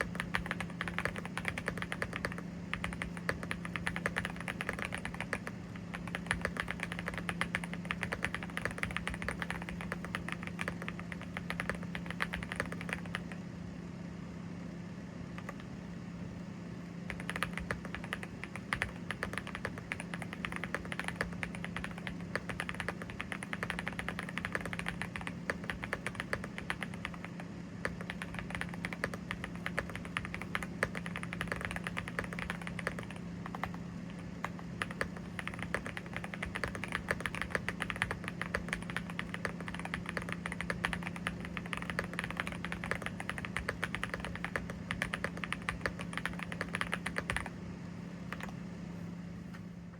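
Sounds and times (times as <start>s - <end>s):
mechanical keyboard typing: 0.0s - 13.4s, 15.4s - 15.7s, 17.1s - 47.5s, 48.3s - 48.6s
steady low hum: 0.0s - 49.9s.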